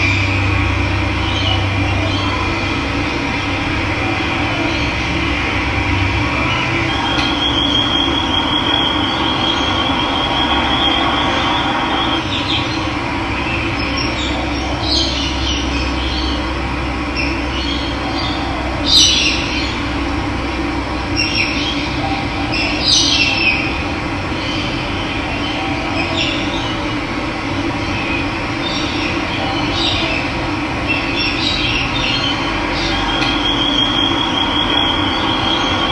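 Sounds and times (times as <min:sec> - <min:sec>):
birds trilling and chirping: 0:00.0 - 0:35.9.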